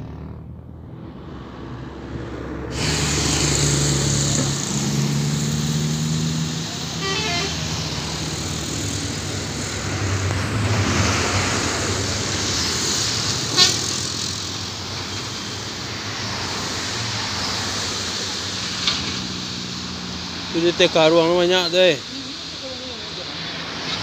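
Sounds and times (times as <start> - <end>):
road traffic noise: 0.0 - 24.0
vehicle passing: 0.0 - 24.0.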